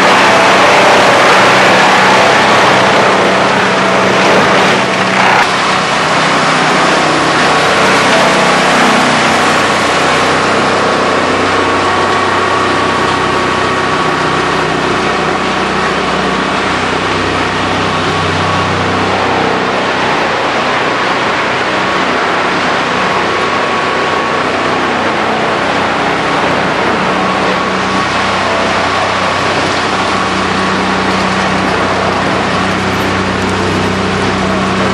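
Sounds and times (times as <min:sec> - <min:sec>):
grinder grinding wooden pallets: 0:00.0 - 0:34.9.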